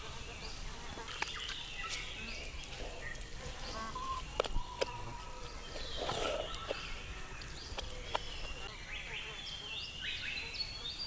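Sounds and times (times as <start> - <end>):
birds chirping: 0.0 - 11.0
insects calling: 0.0 - 11.0.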